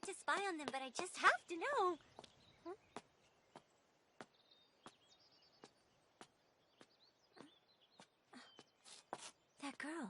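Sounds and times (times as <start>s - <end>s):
faint birdsong chirps: 0.0s - 10.0s.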